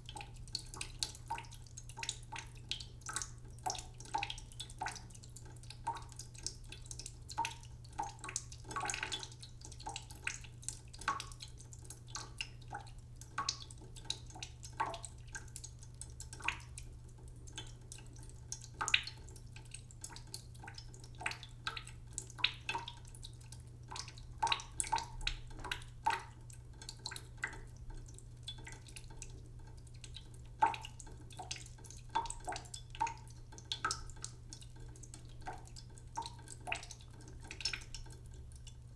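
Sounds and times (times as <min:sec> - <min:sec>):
water trickling into a pot: 0:00.0 - 0:38.9.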